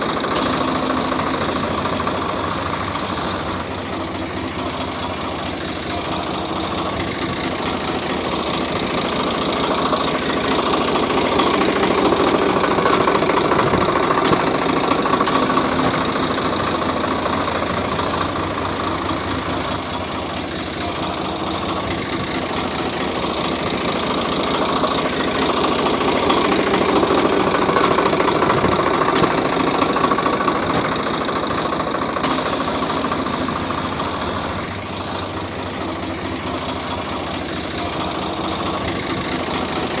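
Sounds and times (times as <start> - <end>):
engine idling with knocking: 0.0 - 40.0.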